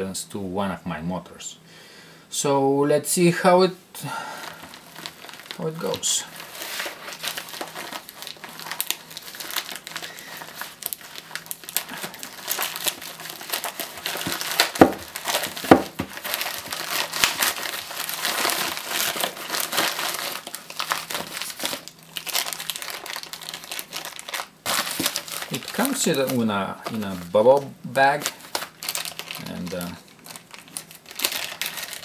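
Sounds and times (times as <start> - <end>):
plastic packaging crinkling: 4.2 - 32.0
poly mailer tearing: 4.4 - 32.0.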